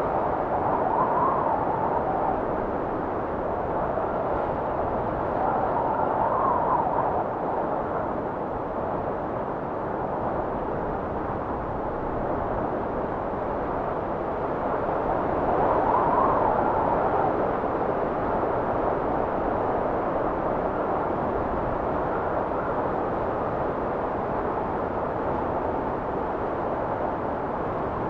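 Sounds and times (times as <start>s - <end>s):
blizzard wind whistling: 0.0s - 28.0s.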